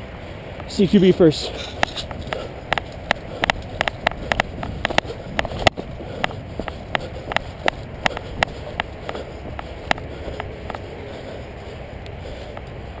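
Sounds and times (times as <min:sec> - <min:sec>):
wind rumble on microphone: 0:00.0 - 0:13.0
footsteps running on dirt: 0:00.7 - 0:13.0
gear rattling and clicking: 0:00.9 - 0:11.4.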